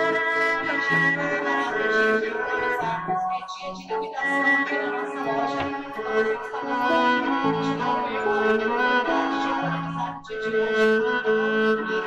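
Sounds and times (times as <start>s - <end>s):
bowed string instrument music: 0.0s - 12.0s.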